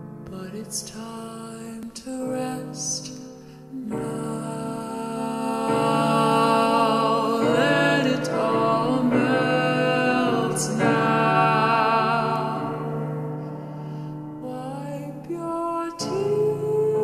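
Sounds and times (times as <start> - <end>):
slow choir-like song: 1.5 - 17.0.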